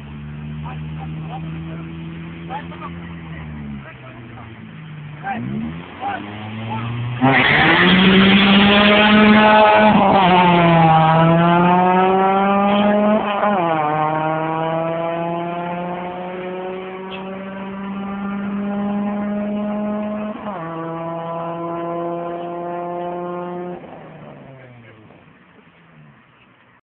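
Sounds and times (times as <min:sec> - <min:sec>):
car engine accelerating: 0:00.0 - 0:26.6.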